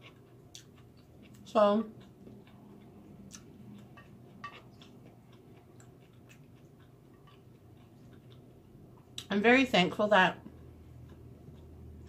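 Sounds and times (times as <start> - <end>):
quiet chewing: 0.0 - 9.3, 10.4 - 12.0.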